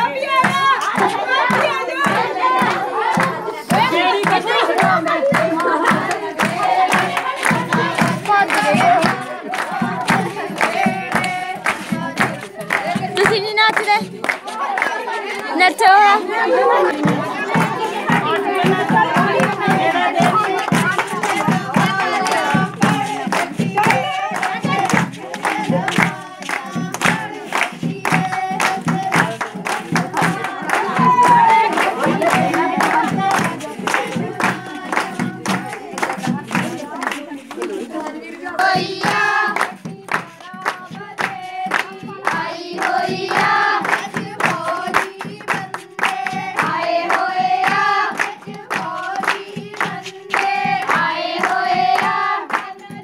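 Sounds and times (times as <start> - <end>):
rhythmic hand-clapping: 0.0 - 53.0
women singing folk song: 0.0 - 53.0.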